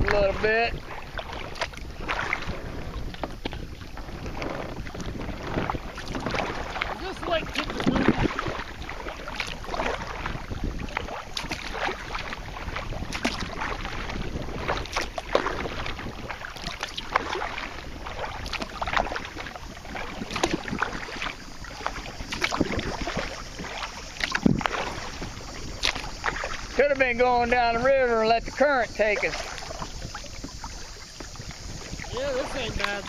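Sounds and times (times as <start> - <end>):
kayak paddle splashing: 0.0 - 33.0
wind noise on microphone: 0.0 - 33.0.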